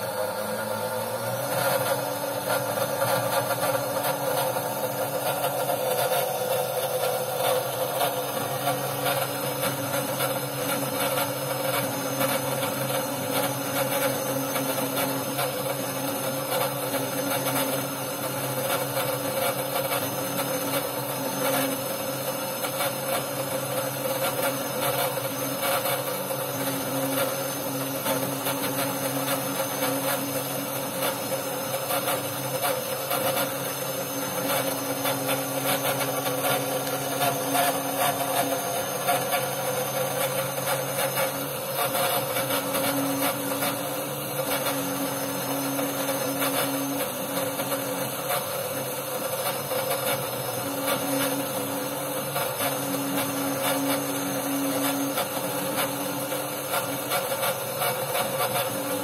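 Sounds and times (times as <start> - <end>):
cnc spindle tone: 0.0 - 59.0
drill bit scraping copper: 1.3 - 59.0.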